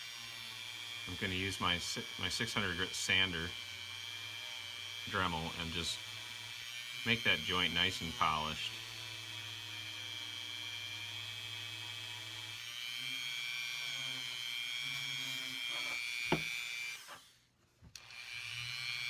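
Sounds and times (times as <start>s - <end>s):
rotary tool whining: 0.0s - 19.0s.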